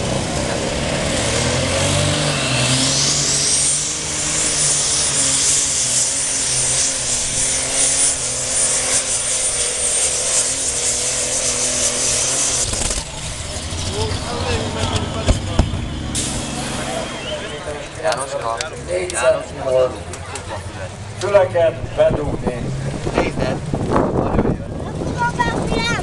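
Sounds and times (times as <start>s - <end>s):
diesel tractor engine at full power: 0.0s - 26.0s
high turbo whine: 0.0s - 26.0s.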